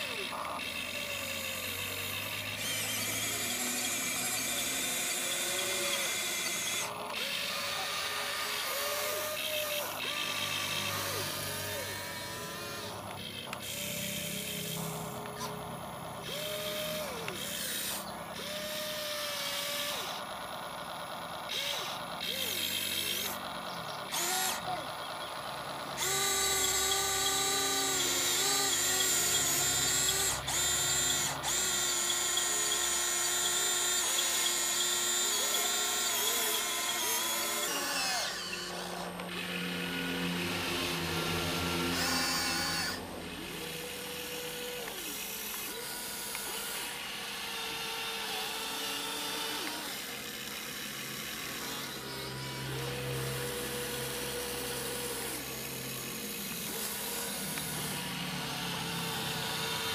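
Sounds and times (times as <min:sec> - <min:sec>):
toy electric motors whining: 0:00.0 - 0:59.9.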